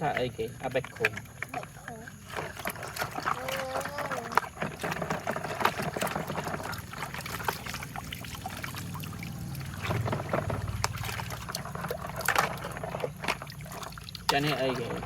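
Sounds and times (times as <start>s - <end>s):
plastic toy trucks clattering: 0.0s - 7.6s, 10.0s - 15.0s
water pouring and splashing: 0.0s - 15.0s.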